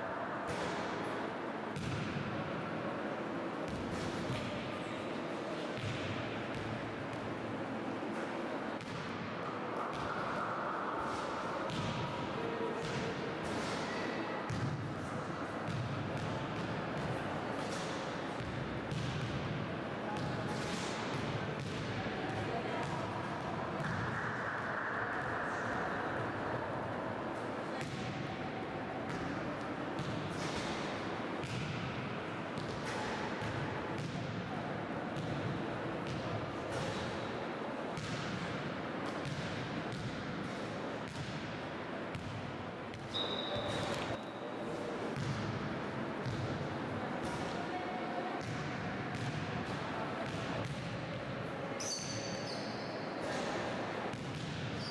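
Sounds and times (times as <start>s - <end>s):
echoing sports hall noise: 0.0s - 54.9s
steady background noise: 0.0s - 54.9s.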